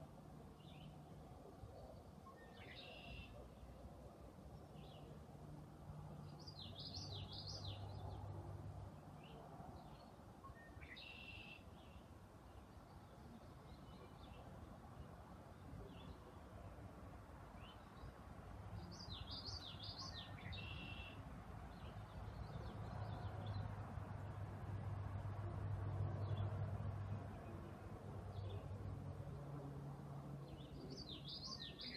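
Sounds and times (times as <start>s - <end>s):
bird song: 0.5s - 5.3s, 6.1s - 16.8s, 17.5s - 24.4s, 26.0s - 29.0s, 30.3s - 31.9s.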